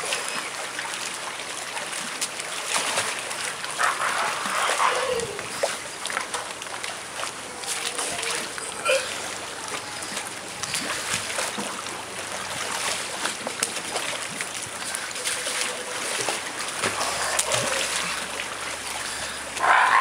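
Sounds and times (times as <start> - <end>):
seal pups splashing in water: 0.0 - 20.0.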